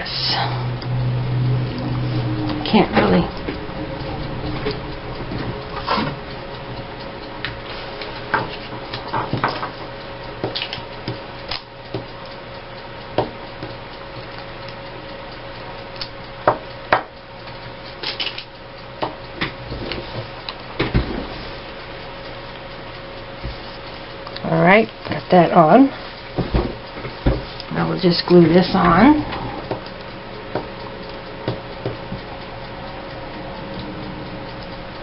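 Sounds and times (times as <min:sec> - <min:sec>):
faint hum: 0:00.0 - 0:35.0.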